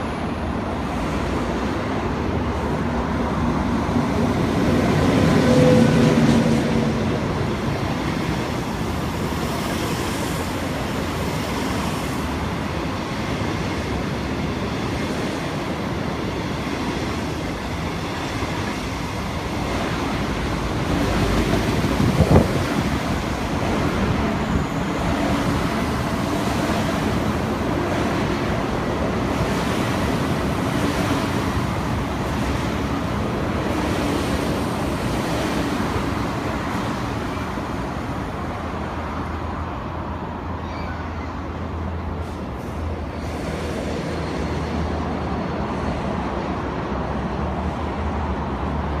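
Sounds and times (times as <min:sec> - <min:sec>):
electric locomotive humming: 0:00.0 - 0:40.6
train coaches rumbling on rails: 0:00.0 - 0:49.0.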